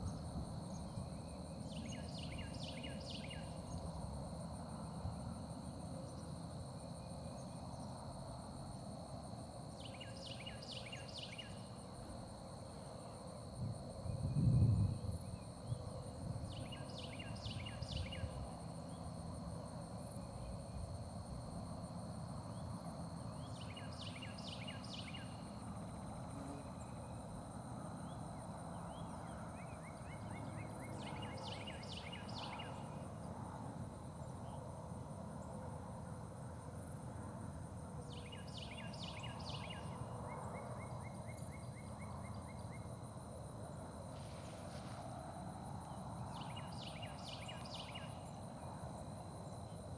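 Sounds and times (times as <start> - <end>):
songbird singing: 0.0 - 4.8, 5.6 - 33.4, 38.0 - 44.0, 45.8 - 49.9
steady high-pitched whine: 0.0 - 49.9.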